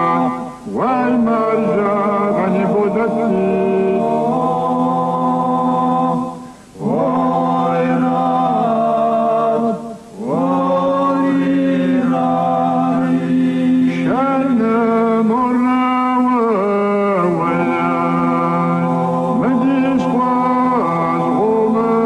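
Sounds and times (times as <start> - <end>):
men singing a cappella: 0.0 - 22.0.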